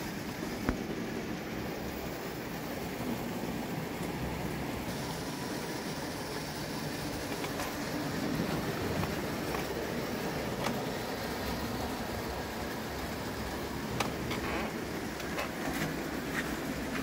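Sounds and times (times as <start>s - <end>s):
hot-air engine running: 0.0s - 17.0s.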